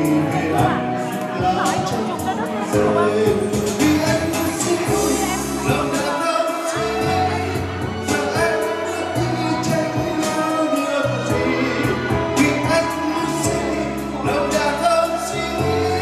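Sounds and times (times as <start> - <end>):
instrumental backing with beat: 0.0 - 16.0
man singing into microphone: 0.0 - 16.0.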